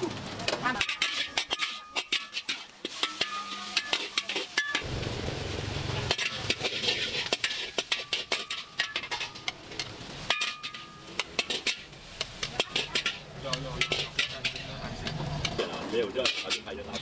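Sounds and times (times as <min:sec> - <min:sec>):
food sizzling: 0:00.0 - 0:17.0
metal spatula scraping wok: 0:00.2 - 0:04.9, 0:05.7 - 0:17.0.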